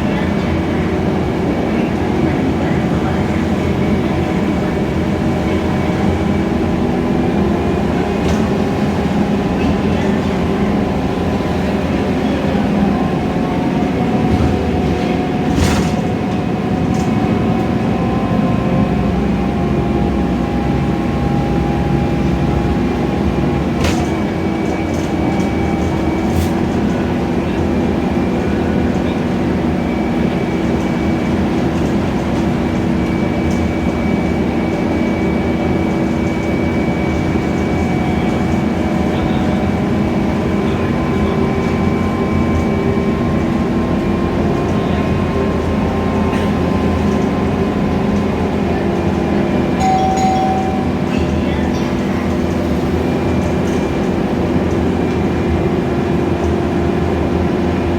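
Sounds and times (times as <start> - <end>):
bus engine hum with whine: 0.0 - 57.9.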